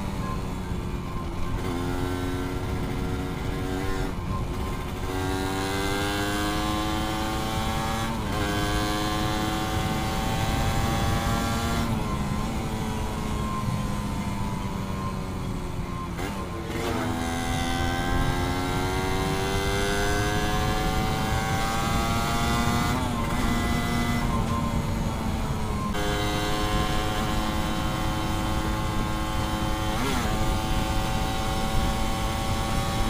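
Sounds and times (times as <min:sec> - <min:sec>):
motorbike engine accelerating: 0:00.0 - 0:33.0.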